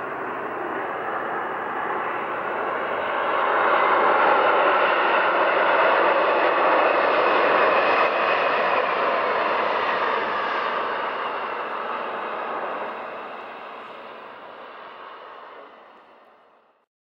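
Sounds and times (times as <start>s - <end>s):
airliner engine rush: 0.0s - 16.6s.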